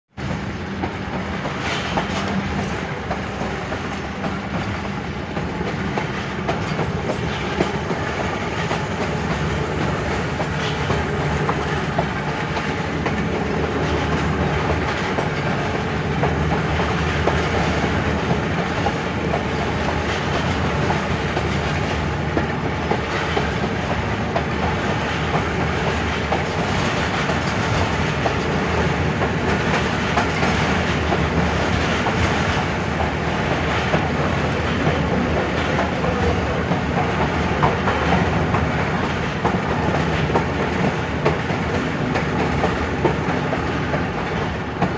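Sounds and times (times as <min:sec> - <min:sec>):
train wheels clicking on rails: 0:00.2 - 0:44.9.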